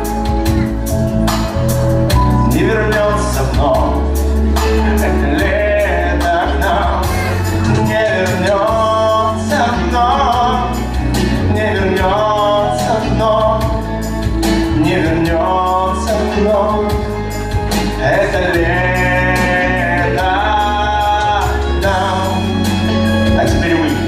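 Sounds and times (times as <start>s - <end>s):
song with melodic lead and bass beat: 0.0s - 24.0s.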